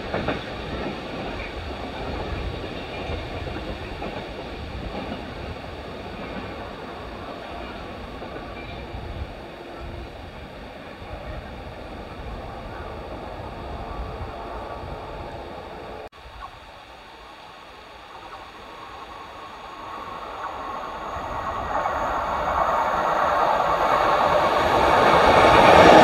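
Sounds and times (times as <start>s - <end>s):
diesel train approaching: 0.0s - 26.0s.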